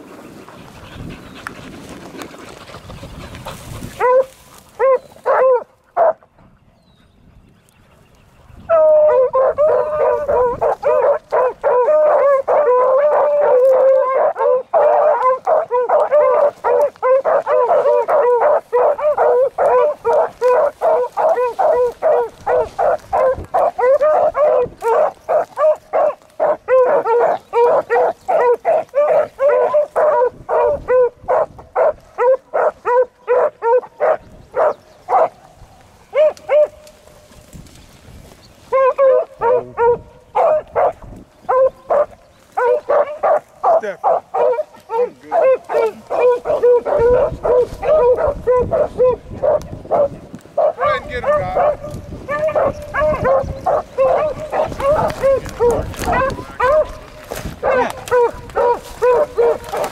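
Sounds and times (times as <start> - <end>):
beagles baying: 0.0 - 6.4, 8.0 - 37.1, 38.6 - 59.9.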